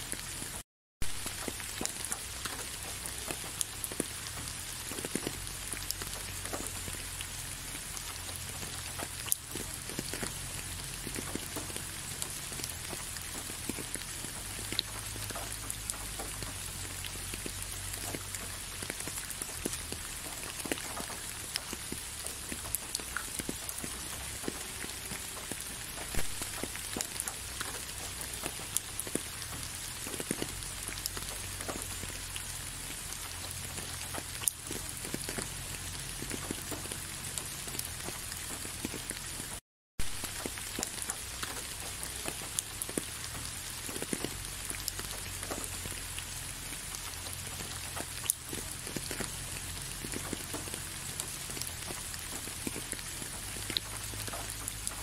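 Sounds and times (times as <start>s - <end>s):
raindrops striking close by: 0.0s - 55.0s
steady rain hiss: 0.0s - 55.0s.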